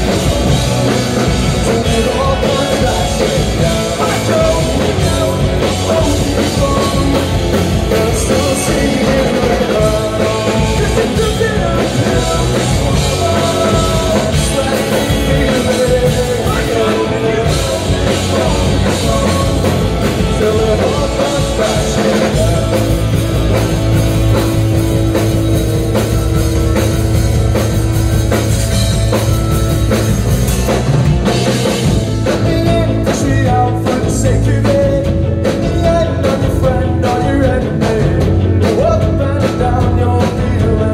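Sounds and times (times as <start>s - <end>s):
person singing: 0.0s - 24.5s, 32.1s - 40.9s
bass guitar: 0.0s - 40.9s
drum kit: 0.0s - 40.9s
electric guitars: 0.0s - 40.9s.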